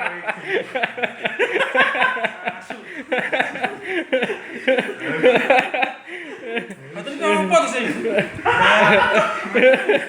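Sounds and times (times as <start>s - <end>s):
indistinct talk: 0.0s - 10.0s
people laughing: 0.0s - 10.0s.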